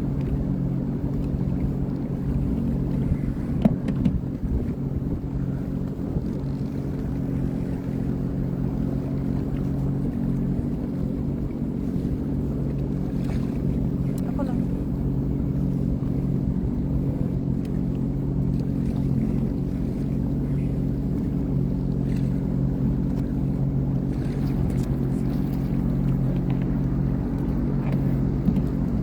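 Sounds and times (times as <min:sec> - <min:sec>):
watercraft engine running: 0:00.0 - 0:29.0.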